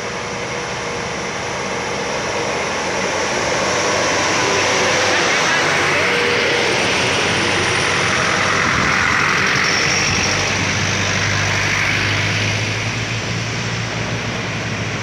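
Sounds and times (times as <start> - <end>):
cars driving past: 0.0 - 15.0
diesel truck engine: 0.0 - 15.0.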